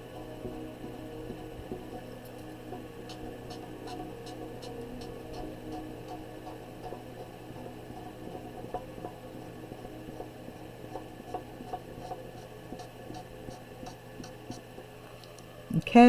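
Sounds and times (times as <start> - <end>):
low electrical hum: 0.0 - 16.0
small ticks: 1.2 - 15.5.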